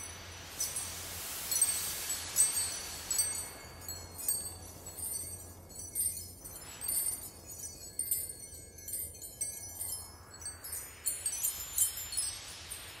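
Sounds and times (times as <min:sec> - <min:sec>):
high tinkling chimes: 0:00.0 - 0:13.0.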